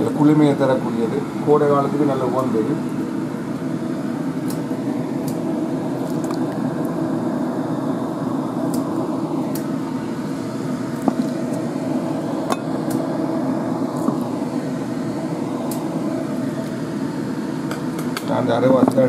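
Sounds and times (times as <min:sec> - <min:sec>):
low motor hum: 0:00.0 - 0:18.2.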